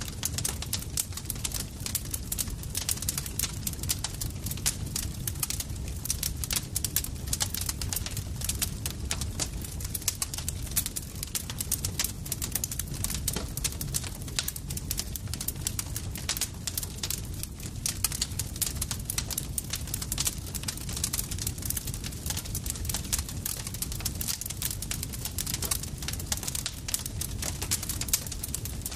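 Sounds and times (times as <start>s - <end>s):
campfire crackling and popping: 0.0s - 28.9s
low rumble of burning fire: 0.0s - 28.9s.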